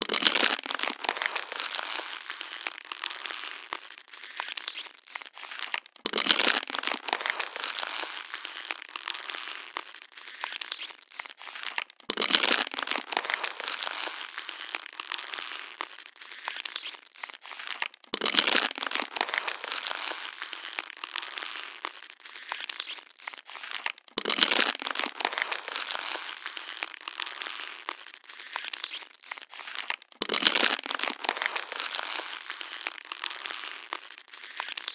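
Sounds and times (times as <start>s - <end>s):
plastic bottle crushed and crinkled: 0.0s - 34.9s.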